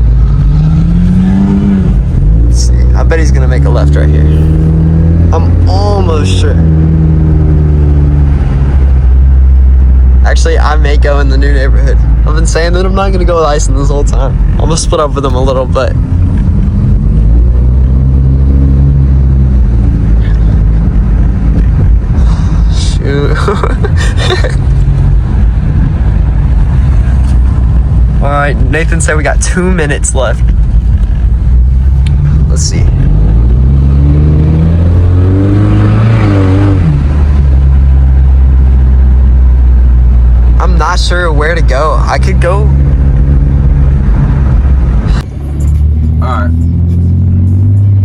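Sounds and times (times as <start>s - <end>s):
car engine droning from inside: 0.0s - 48.0s.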